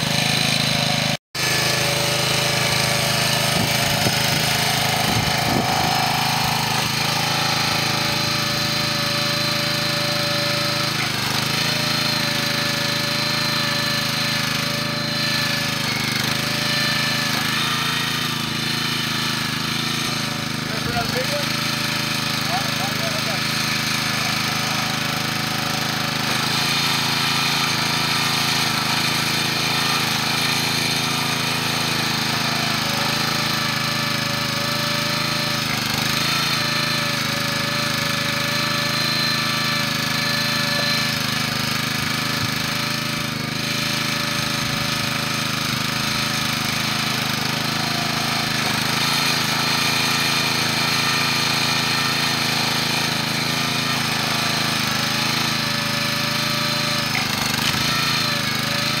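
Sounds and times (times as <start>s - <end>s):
firewood splitting: 0.0s - 59.0s
small gasoline engine running: 0.0s - 59.0s.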